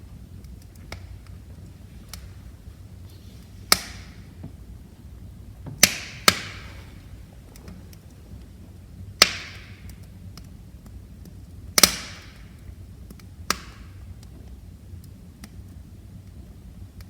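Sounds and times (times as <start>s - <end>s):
fire popping loudly: 0.0s - 16.0s
low rumble of flames: 0.0s - 17.0s
wood fire crackling: 0.0s - 17.0s.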